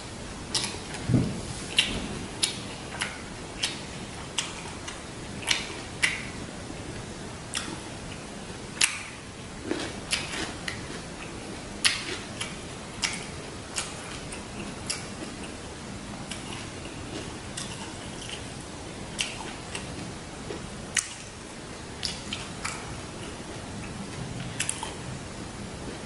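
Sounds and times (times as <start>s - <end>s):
chewing with lip smacks: 0.5s - 1.0s, 1.7s - 6.4s, 7.5s - 15.6s, 16.2s - 21.4s, 22.0s - 25.1s.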